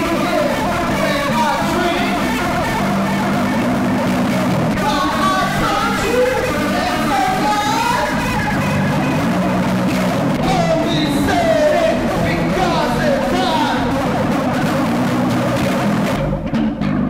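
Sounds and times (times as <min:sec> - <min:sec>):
funk rock song with guitars: 0:00.0 - 0:17.0.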